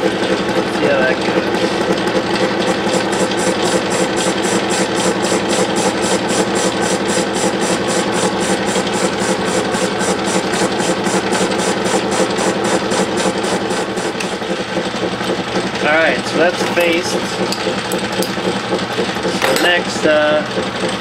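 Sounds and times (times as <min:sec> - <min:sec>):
metal lathe humming: 0:00.0 - 0:21.0
rhythmic ticking of lathe tool: 0:00.0 - 0:21.0.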